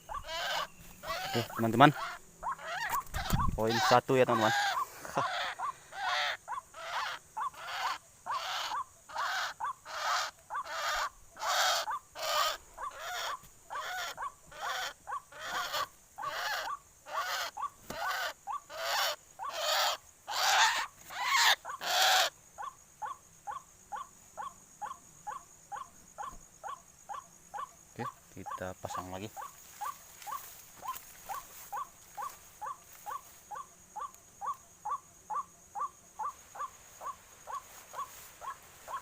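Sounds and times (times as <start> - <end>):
bird harsh calls: 0.0 - 39.0.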